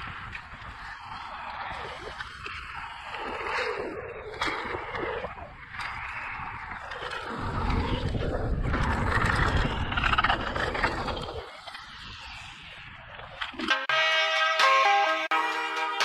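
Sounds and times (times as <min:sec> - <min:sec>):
bike tyres on gravel trail: 0:00.0 - 0:13.4
wind buffeting microphone: 0:00.0 - 0:13.8.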